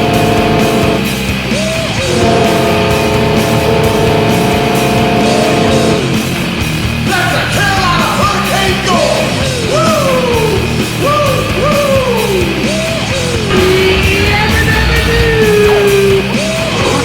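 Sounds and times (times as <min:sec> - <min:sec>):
rock song with yelled vocals: 0:00.0 - 0:17.0.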